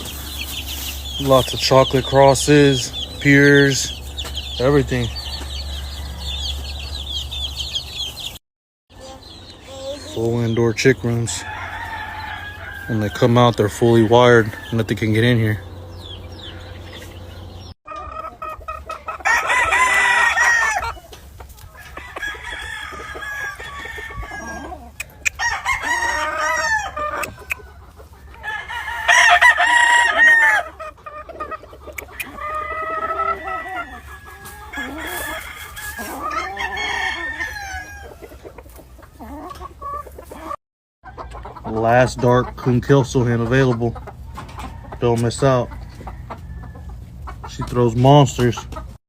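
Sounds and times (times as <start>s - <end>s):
hens clucking: 0.0s - 8.4s, 9.0s - 49.0s
roosters crowing: 0.0s - 8.4s, 9.1s - 48.6s.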